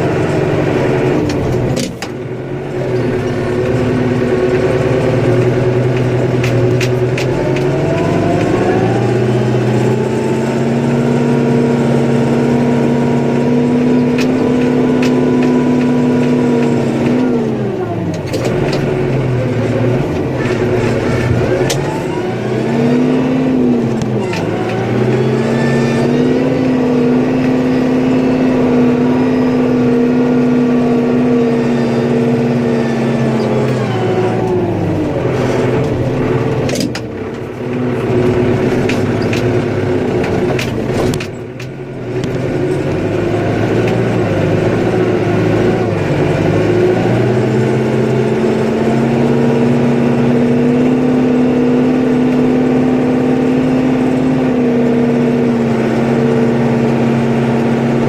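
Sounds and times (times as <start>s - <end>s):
snowplow engine revving: 0.0s - 58.0s.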